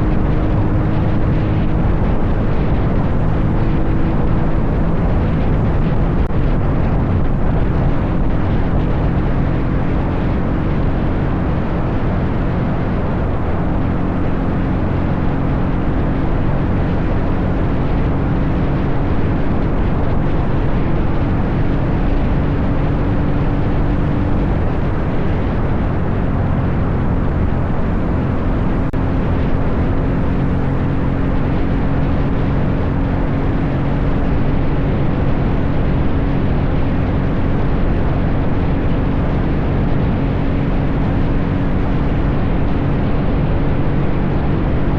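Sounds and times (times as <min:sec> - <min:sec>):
dirt bike engine running: 0:00.0 - 0:44.9
steady rush of noise: 0:00.0 - 0:44.9.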